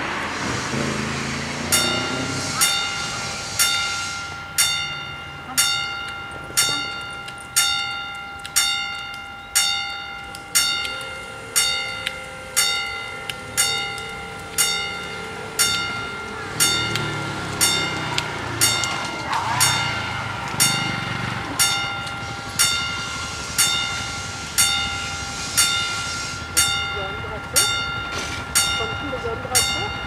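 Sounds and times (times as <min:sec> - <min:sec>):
level crossing warning bell: 0:00.8 - 0:30.0.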